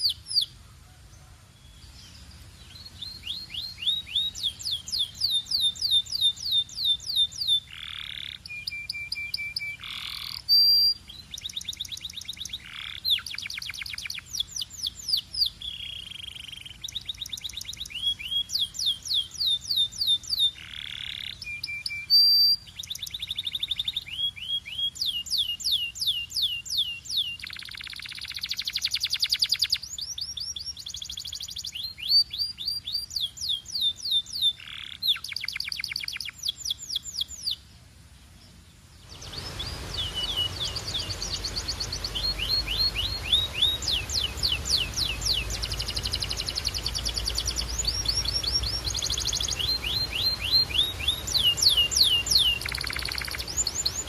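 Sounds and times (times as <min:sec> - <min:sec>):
canary singing rapid trills: 0:02.8 - 0:37.6, 0:39.1 - 0:54.0.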